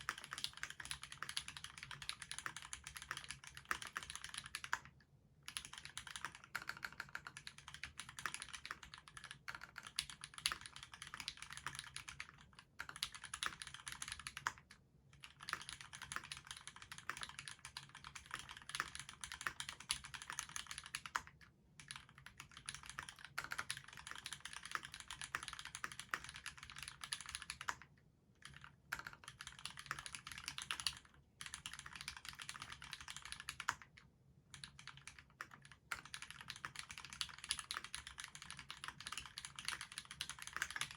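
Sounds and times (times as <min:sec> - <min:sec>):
fast mechanical keyboard typing: 0:00.0 - 0:04.9, 0:05.5 - 0:40.9.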